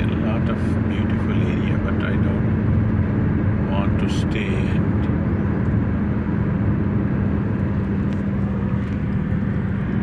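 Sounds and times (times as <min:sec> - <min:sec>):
car cabin road noise: 0:00.0 - 0:10.0.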